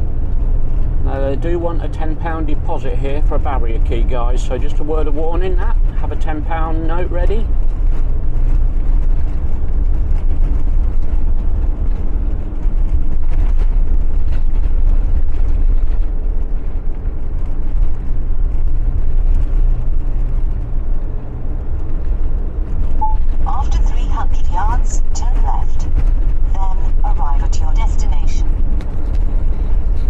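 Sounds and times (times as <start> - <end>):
engine and road rumble: 0.0 - 30.0.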